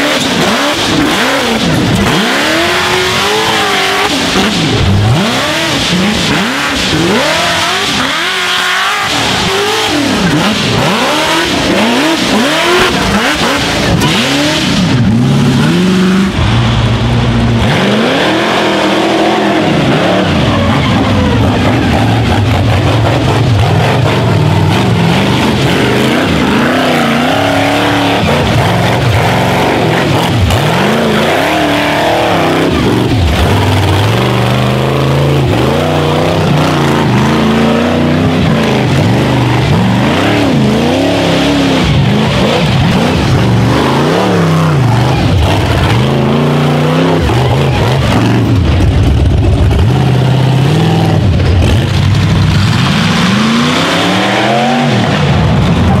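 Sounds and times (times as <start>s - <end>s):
buggy engines revving: 0.0s - 56.0s.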